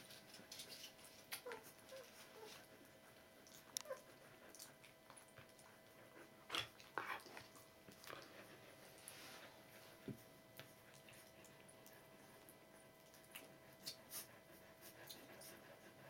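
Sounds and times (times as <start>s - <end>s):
puppies suckling: 0.1s - 16.0s.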